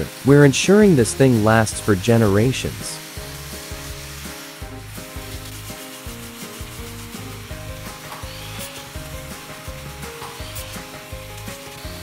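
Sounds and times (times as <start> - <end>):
background music: 0.0 - 12.0
angle grinder sanding wood: 0.7 - 12.0.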